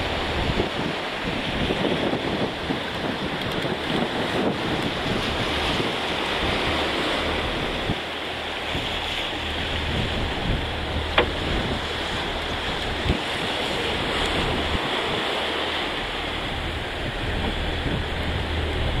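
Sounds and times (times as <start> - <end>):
choppy sea rushing: 0.0 - 19.0
wind buffeting microphone: 0.0 - 19.0.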